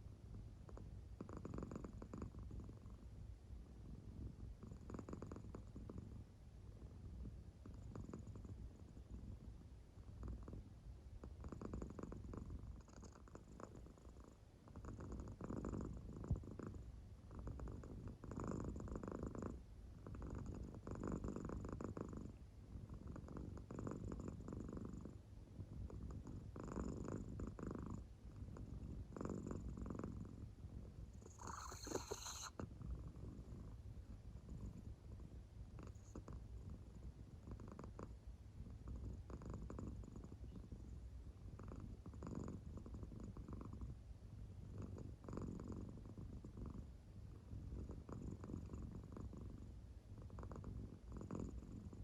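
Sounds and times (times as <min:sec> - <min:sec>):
cat purring faintly: 0:00.0 - 0:52.0.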